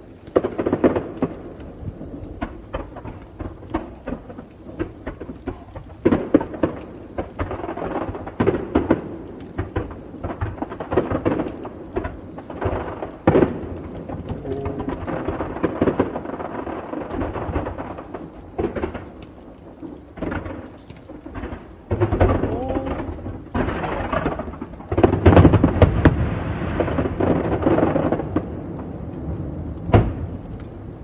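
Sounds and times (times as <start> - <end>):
fireworks crackling: 0.0 - 31.0
fireworks booming: 0.3 - 31.0.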